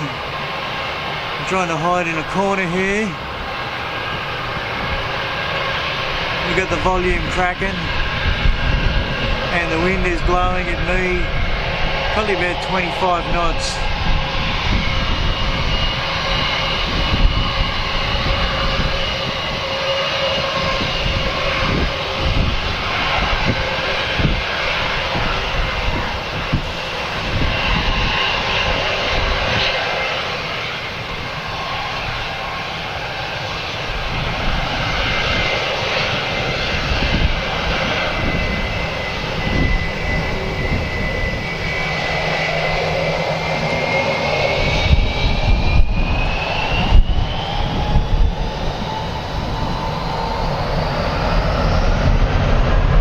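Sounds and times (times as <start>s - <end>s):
jet engines whining: 0.0s - 53.0s
wind buffeting microphone: 0.0s - 53.0s.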